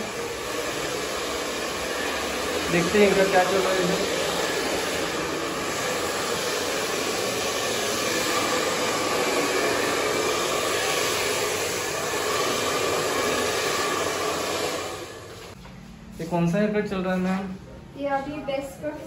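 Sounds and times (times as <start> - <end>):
hair dryer running: 0.0 - 15.6.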